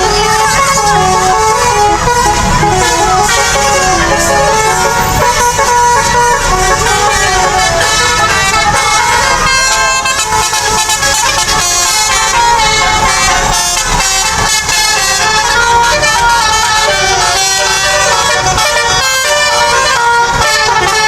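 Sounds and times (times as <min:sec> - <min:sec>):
bus musical horn playing notes: 0:00.0 - 0:21.0.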